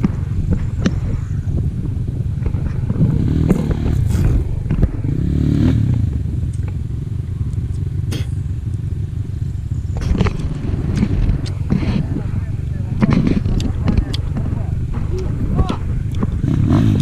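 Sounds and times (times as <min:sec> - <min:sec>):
dirt bike engine running: 0:00.0 - 0:17.0
sharp knocks and clatter: 0:01.8 - 0:08.9, 0:09.9 - 0:17.0.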